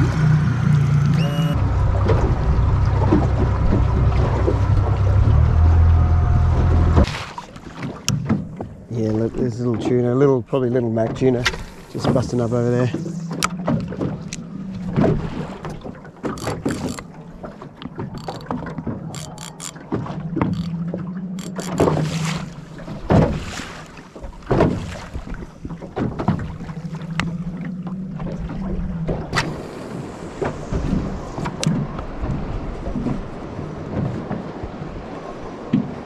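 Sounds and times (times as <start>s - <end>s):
water splashing against boat hull: 1.6s - 36.0s.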